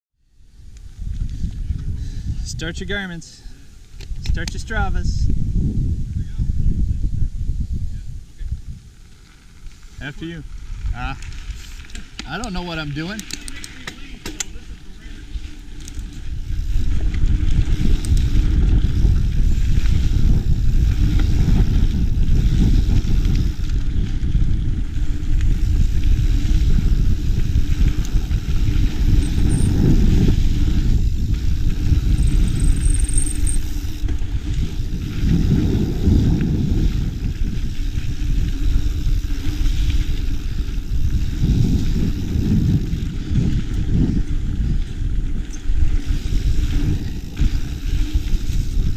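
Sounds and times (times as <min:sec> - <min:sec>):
bike tyres rumbling on dirt: 0:00.4 - 0:02.4, 0:03.6 - 0:48.9.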